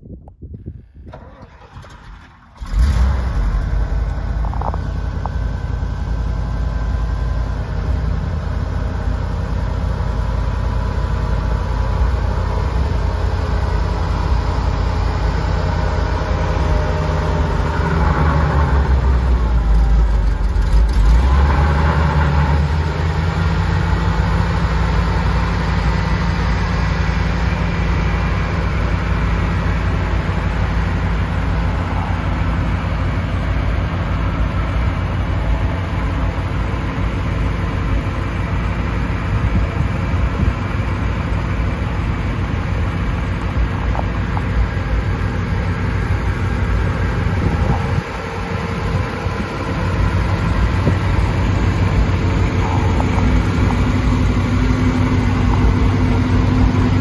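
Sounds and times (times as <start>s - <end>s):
truck engine starting and idling: 0.0s - 57.0s.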